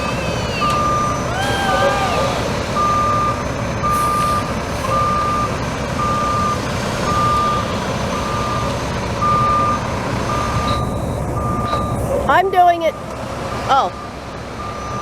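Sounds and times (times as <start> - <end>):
diesel engine running: 0.0 - 15.0
reversing alarm beeping: 0.0 - 15.0.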